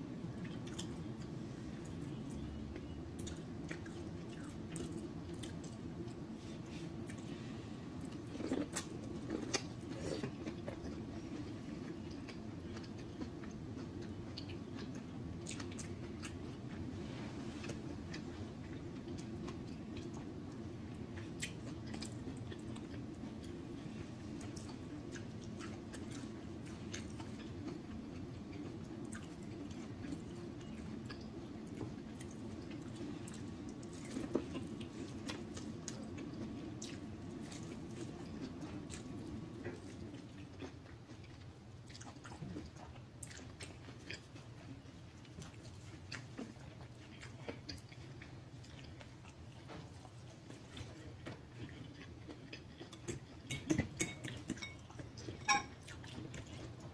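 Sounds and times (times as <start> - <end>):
low steady hum: 0.0 - 56.9
chewing and lip-smacking: 0.3 - 6.3, 7.9 - 16.8, 17.5 - 56.9.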